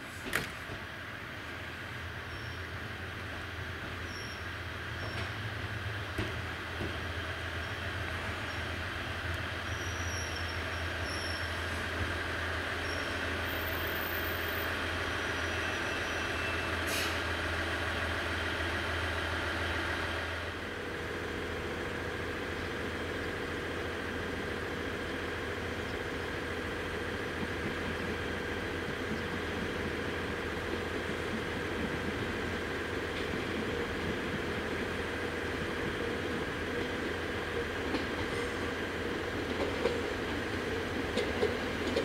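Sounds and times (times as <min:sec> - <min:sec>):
train hum with whine: 0:00.0 - 0:42.0.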